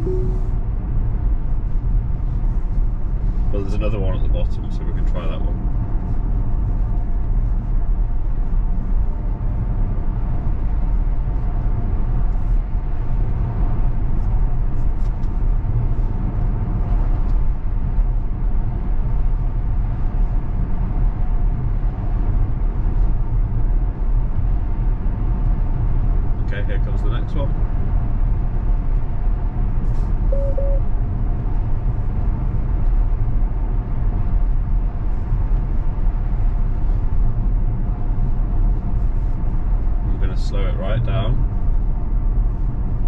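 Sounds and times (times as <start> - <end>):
road and tyre rumble inside car: 0.0 - 43.0.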